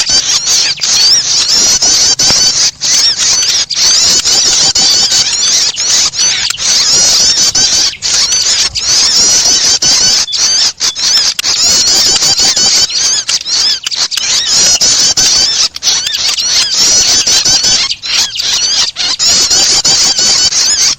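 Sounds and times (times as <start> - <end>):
high-pitched bird chirps and twitters: 0.0 - 20.9.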